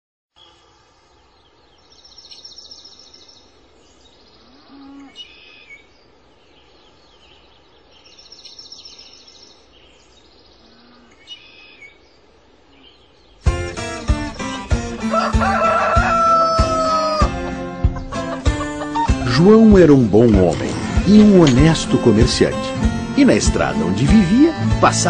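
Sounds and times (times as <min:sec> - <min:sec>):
steady low hiss: 0:00.4 - 0:16.5, 0:17.3 - 0:25.0.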